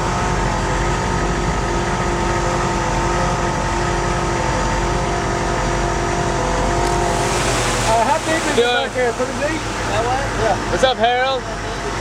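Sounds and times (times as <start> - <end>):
diesel engine running: 0.0 - 12.0
vehicle driving through water: 0.0 - 12.0.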